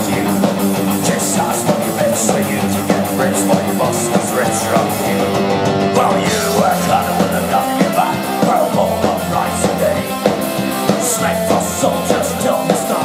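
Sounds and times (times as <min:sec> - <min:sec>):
live punk rock band: 0:00.0 - 0:13.0.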